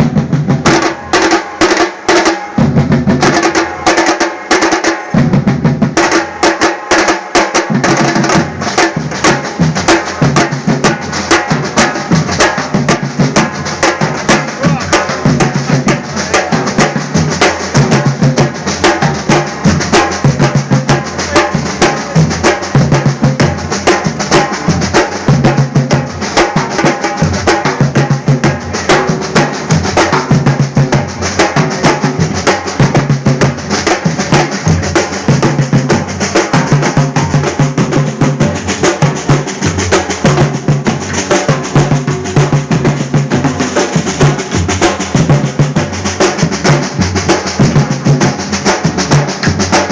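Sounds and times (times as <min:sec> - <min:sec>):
drums in fast rhythm: 0:00.0 - 0:49.9.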